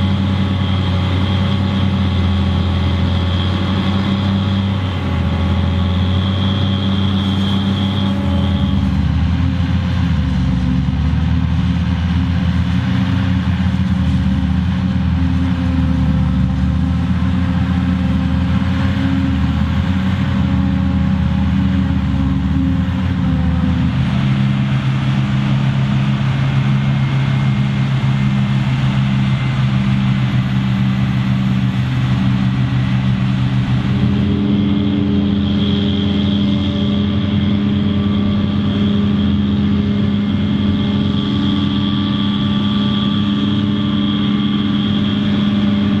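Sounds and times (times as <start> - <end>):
forage harvester engine drone: 0.0 - 46.0
steady high whine: 0.0 - 46.0
tractor diesel engine running: 0.0 - 46.0.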